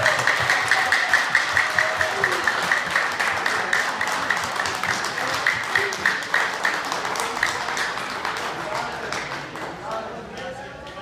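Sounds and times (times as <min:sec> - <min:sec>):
crowd clapping: 0:00.0 - 0:11.0.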